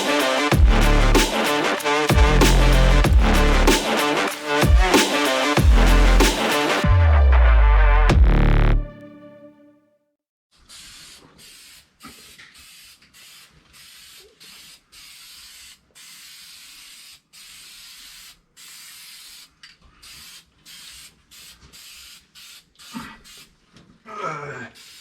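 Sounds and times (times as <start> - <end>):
spray paint can hissing bursts: 0.0 - 6.8, 10.7 - 23.7, 24.8 - 25.0.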